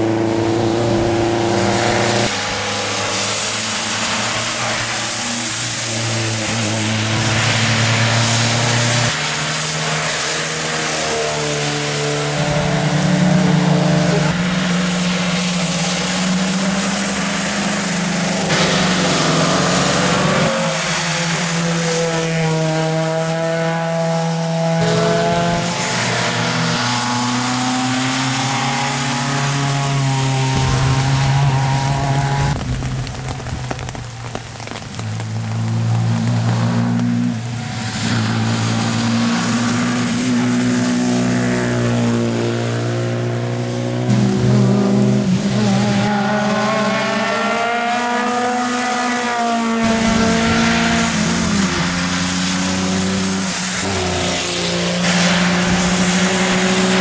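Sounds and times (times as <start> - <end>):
rain: 0.0 - 57.0
rally car engines passing: 0.0 - 57.0
tyres hissing on wet road: 0.0 - 57.0.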